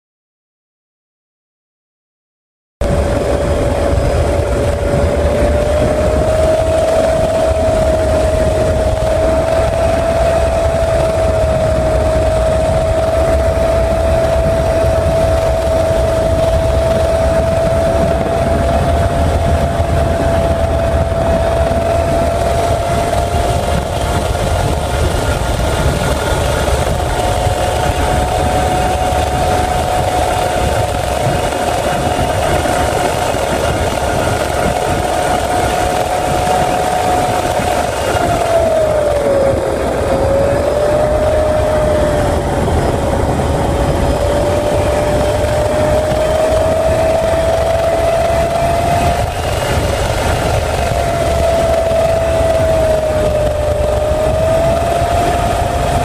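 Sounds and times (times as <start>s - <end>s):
helicopter turbine whine: 2.8s - 56.0s
low rotor drone: 2.8s - 56.0s.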